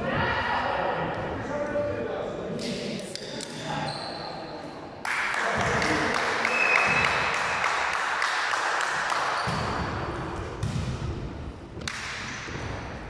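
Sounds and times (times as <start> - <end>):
echoing gym noise: 0.0 - 13.0.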